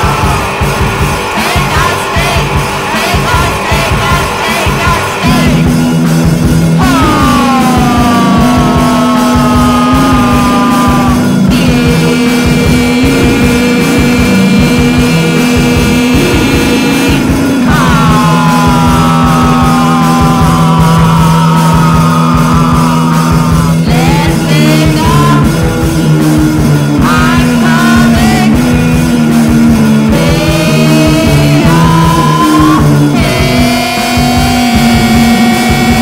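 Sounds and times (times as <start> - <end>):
noise rock guitars and drums: 0.0 - 36.0.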